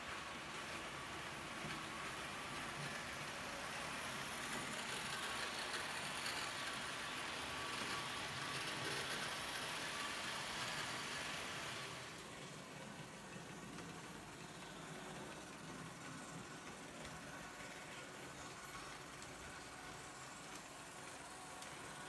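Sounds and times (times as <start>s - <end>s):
model train wheels rolling on rail: 0.0s - 22.0s.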